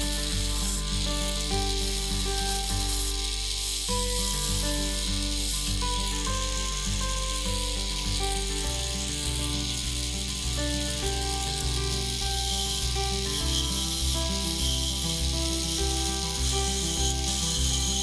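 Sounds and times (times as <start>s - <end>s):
background music: 0.0s - 18.0s
sandpaper hissing on spinning wood: 0.0s - 18.0s.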